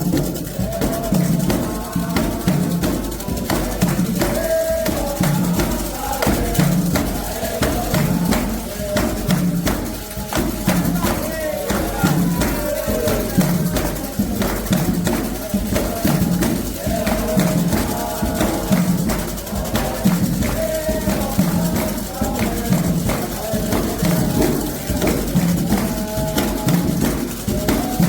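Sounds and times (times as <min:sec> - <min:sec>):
hand drums and percussion: 0:00.0 - 0:28.0
voices singing a chant: 0:00.0 - 0:28.0.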